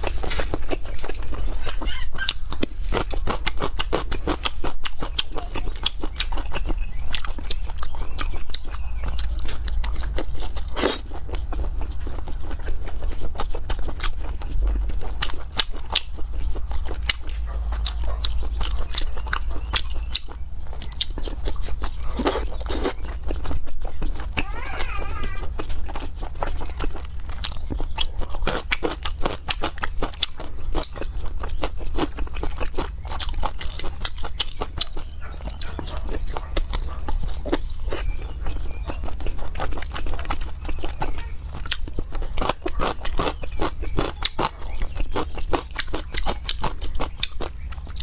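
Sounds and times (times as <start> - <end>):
chewing mouth clicks: 0.0 - 24.5, 25.6 - 48.0.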